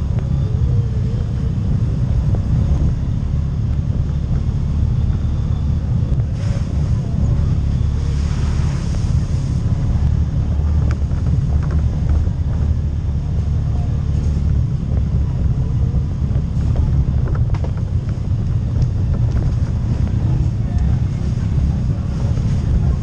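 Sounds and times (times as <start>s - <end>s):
atv engine rumbling: 0.0s - 23.0s
wind buffeting microphone: 0.0s - 23.0s.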